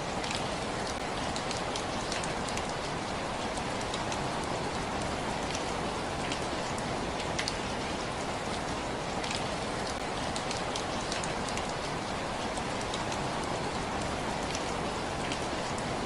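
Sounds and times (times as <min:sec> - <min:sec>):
rain pattering and splashing: 0:00.0 - 0:16.0.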